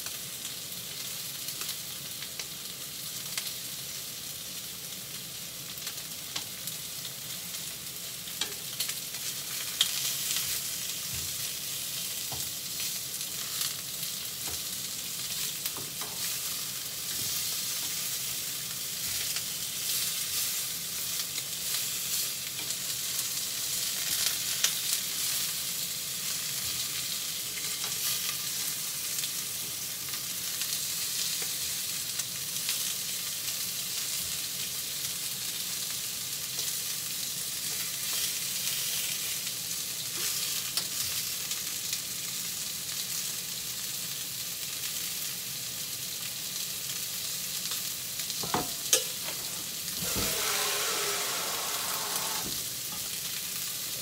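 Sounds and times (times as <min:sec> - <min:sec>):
meat sizzling in a frying pan: 0:00.0 - 0:54.0.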